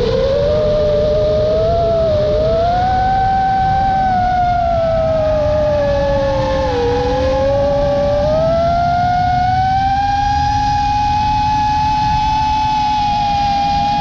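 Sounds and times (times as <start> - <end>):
drone motors whining: 0.0 - 14.0
wind noise: 0.0 - 14.0.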